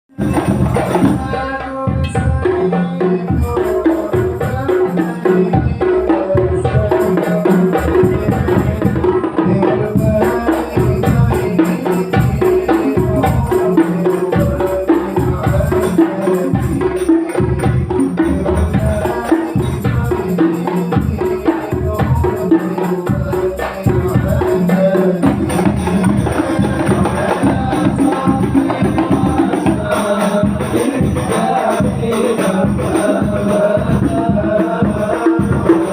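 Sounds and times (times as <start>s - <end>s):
frame drums: 0.1s - 35.9s
jingling tambourines: 0.1s - 35.9s
melody above drums: 0.2s - 13.7s, 14.3s - 35.9s.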